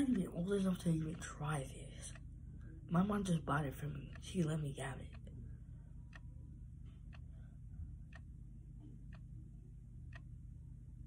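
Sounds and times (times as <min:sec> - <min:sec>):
clock ticking: 0:00.0 - 0:11.0
low room hum: 0:00.0 - 0:11.0.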